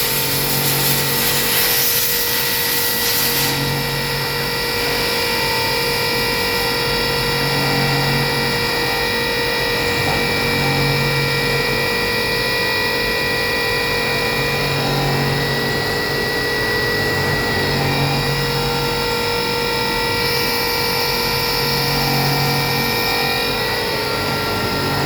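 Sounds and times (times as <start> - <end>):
milling machine whine: 0.0 - 25.0.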